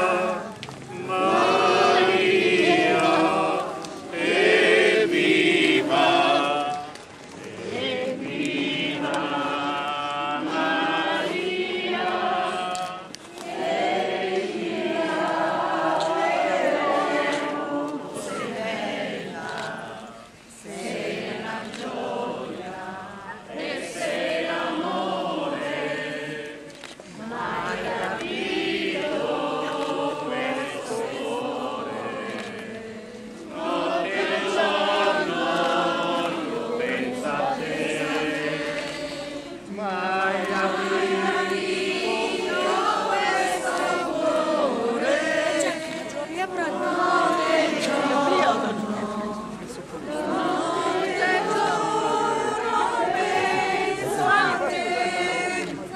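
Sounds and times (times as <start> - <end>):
crowd singing a hymn: 0.0 - 55.9.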